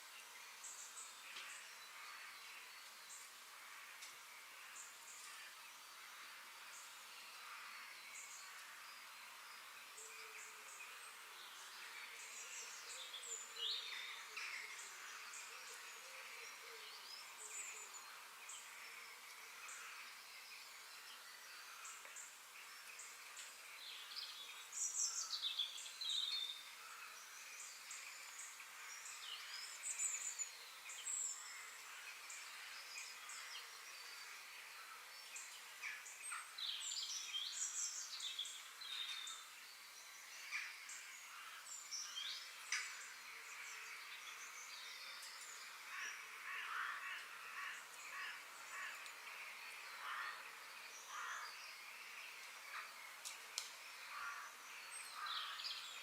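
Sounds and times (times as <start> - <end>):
faint steady hiss: 0.0 - 56.0
songbirds singing and chirping: 0.0 - 56.0.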